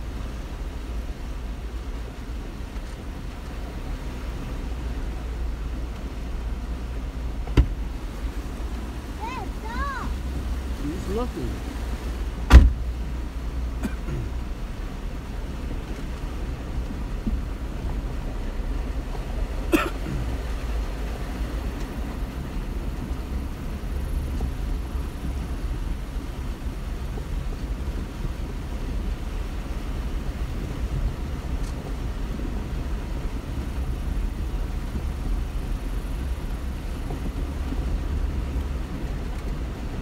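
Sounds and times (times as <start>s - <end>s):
engine and road rumble: 0.0s - 40.0s.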